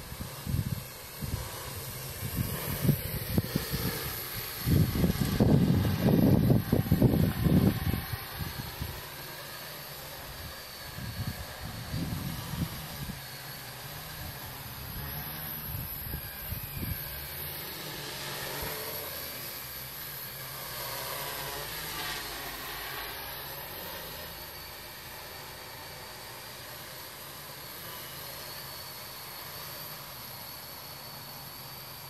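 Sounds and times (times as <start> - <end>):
quadcopter propellers buzzing: 0.0 - 32.0.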